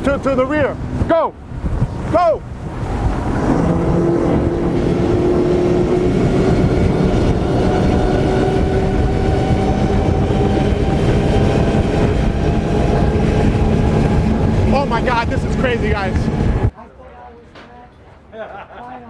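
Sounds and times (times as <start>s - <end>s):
outboard engines droning: 0.0s - 16.7s.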